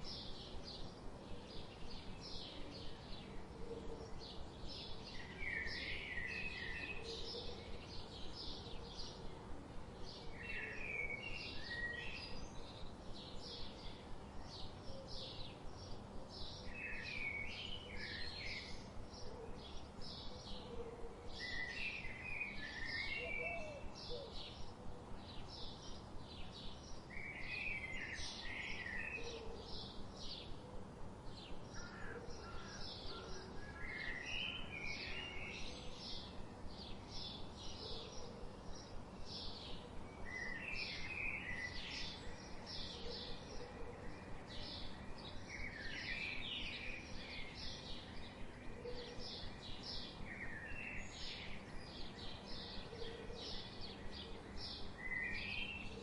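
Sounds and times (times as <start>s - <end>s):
songbirds chirping: 0.0s - 56.0s
steady low hiss: 0.0s - 56.0s.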